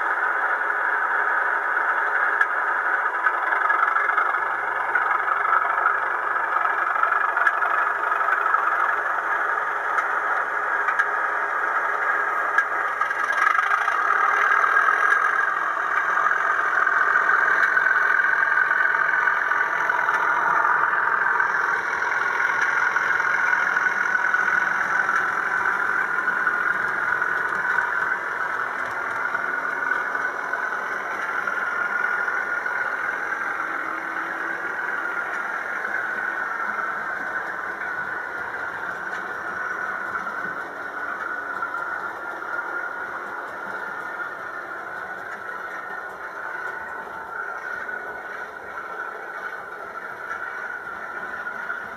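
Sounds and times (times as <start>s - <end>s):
model train running: 0.0s - 51.9s.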